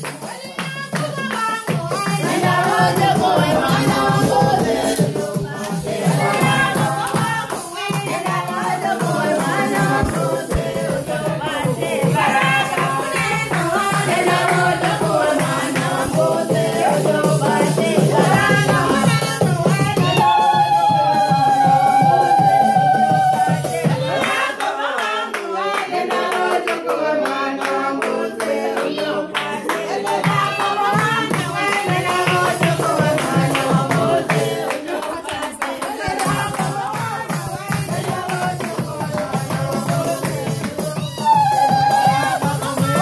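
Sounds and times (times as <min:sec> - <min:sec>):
hand clapping: 0:00.0 - 0:20.4, 0:22.7 - 0:43.0
rattling percussion beat: 0:00.0 - 0:24.5, 0:29.5 - 0:43.0
people singing live music: 0:00.0 - 0:43.0.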